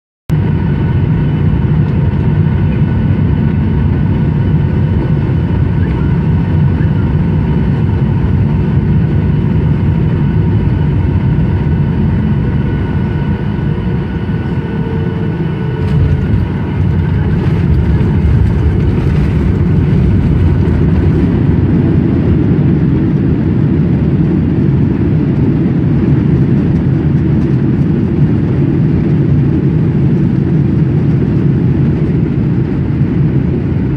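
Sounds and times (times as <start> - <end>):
aircraft cabin rumble: 0.3 - 33.9.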